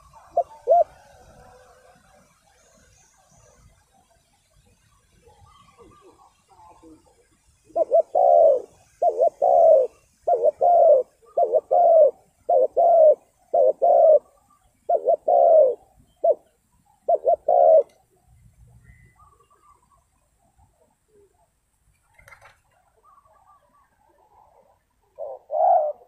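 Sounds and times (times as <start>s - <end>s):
dove cooing: 0.0s - 2.4s, 5.2s - 26.0s.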